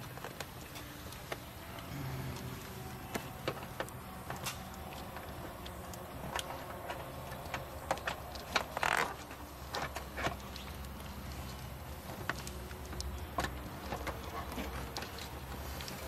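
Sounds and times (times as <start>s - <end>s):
low steady hum: 0.0s - 16.0s
light clicks and taps: 2.4s - 16.0s.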